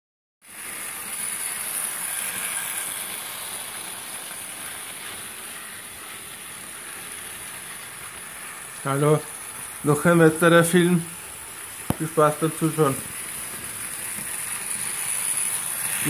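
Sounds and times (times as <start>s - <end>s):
model train wheels rattling on rail: 0.6s - 16.0s.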